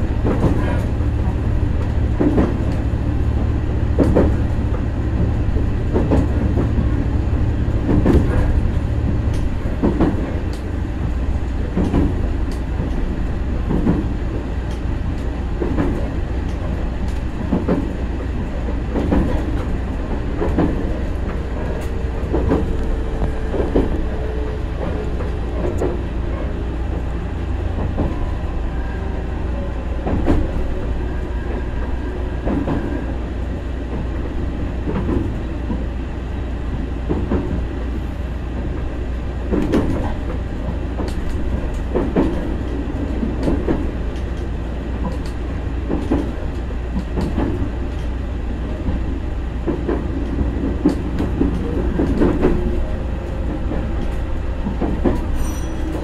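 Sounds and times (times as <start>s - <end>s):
wheels clacking over rail joints: 0.0s - 36.0s, 39.5s - 56.0s
train rumbling inside carriage: 0.0s - 56.0s.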